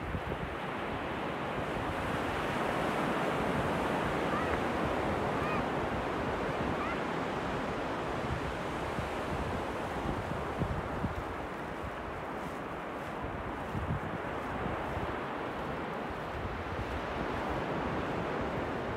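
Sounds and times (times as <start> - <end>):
ocean surf on beach: 0.0 - 18.9.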